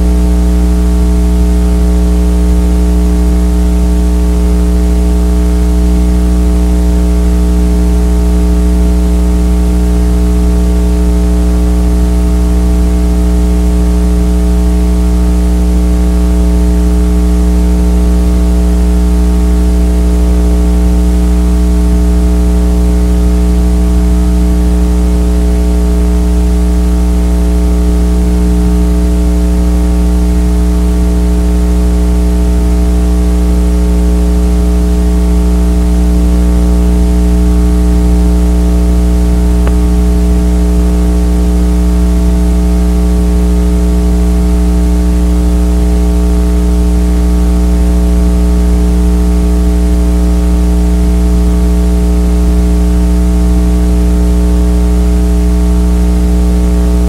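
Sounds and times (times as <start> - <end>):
loud electrical hum: 0.0 - 57.0.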